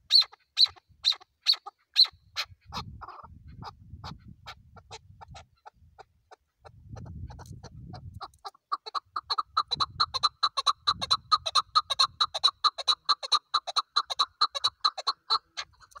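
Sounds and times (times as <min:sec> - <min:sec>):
partridge clucking calls: 0:00.0 - 0:16.0.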